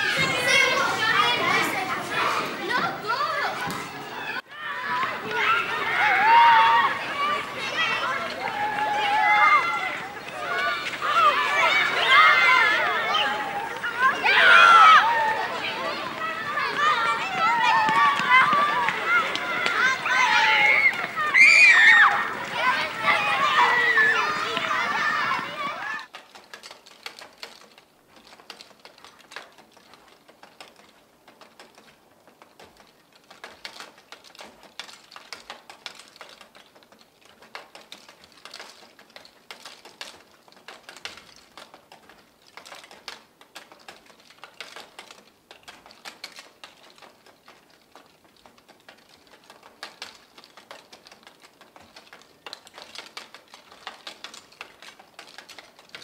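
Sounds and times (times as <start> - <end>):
wheel clicking and rattling: 5.2 - 56.0.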